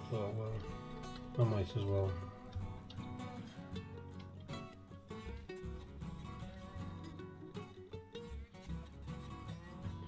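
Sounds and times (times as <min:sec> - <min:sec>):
background music: 0:00.0 - 0:10.0
plucked guitar notes: 0:00.0 - 0:10.0.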